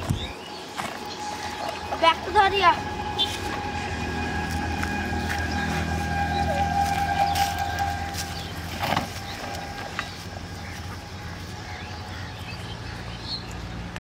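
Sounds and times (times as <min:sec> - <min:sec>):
high whine: 0:00.0 - 0:14.0
low motor hum: 0:00.0 - 0:14.0.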